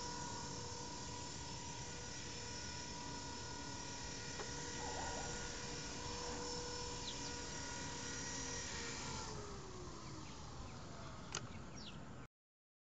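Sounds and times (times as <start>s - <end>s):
rc helicopter motor whine: 0.0s - 12.3s.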